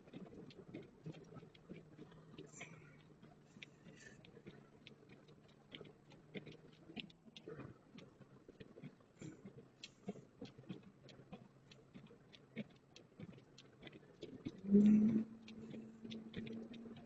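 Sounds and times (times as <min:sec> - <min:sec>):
low steady hum: 0:00.0 - 0:17.0
rapid light ticking in car: 0:00.0 - 0:17.0.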